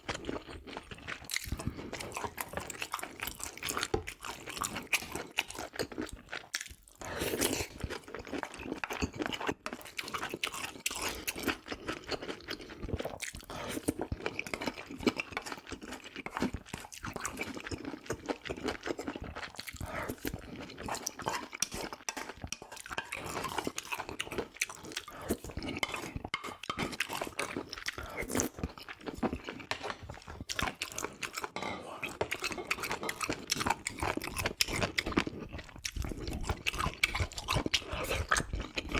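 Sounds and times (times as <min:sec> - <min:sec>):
wet chewing: 0:00.0 - 0:38.9.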